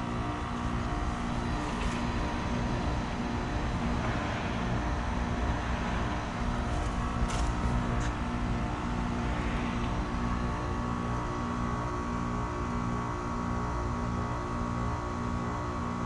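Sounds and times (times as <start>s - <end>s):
compressor hum: 0.0s - 16.0s
condenser fan whoosh: 0.0s - 16.0s.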